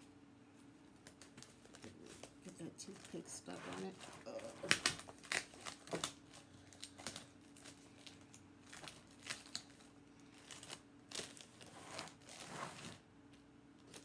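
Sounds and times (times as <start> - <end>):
faint steady hum: 0.0 - 14.0
plastic sheeting crinkling: 1.0 - 13.0.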